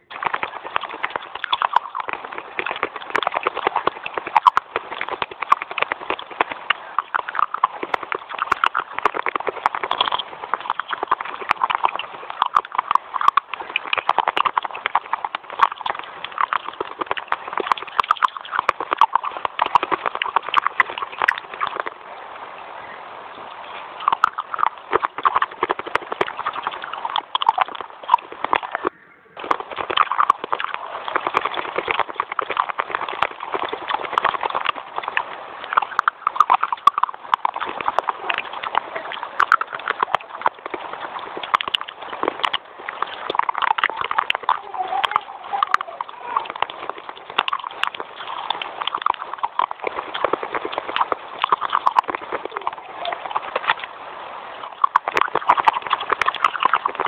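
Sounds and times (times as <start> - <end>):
crunchy chewing: 0.0 - 22.2, 23.3 - 57.0.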